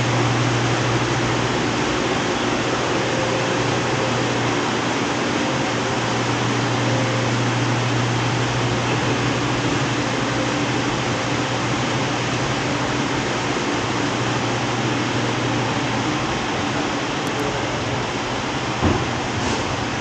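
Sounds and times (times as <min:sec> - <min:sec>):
low machine hum: 0:00.0 - 0:20.0
ventilation hiss: 0:00.0 - 0:20.0.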